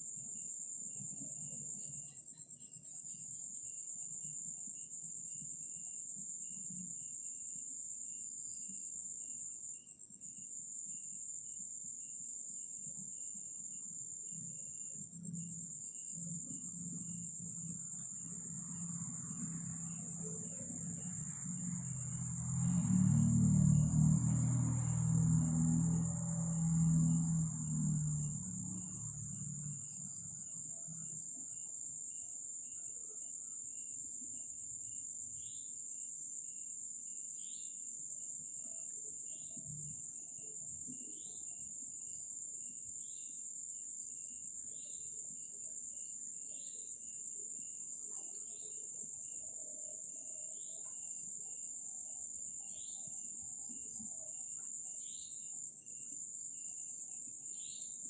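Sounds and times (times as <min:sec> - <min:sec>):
crickets trilling: 0:00.0 - 0:58.0
short insect call: 0:00.0 - 0:58.0.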